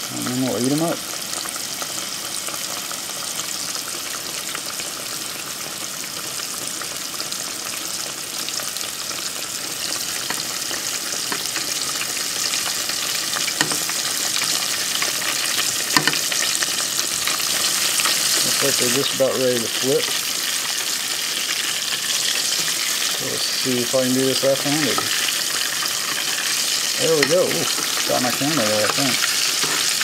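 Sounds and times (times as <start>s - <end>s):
deep-frying sizzle: 0.0s - 30.0s.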